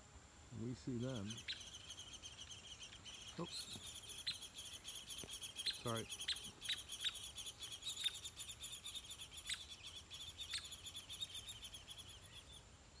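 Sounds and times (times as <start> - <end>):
high chirring chorus: 0.6 - 12.4
woodpecker pik calls: 0.6 - 13.0.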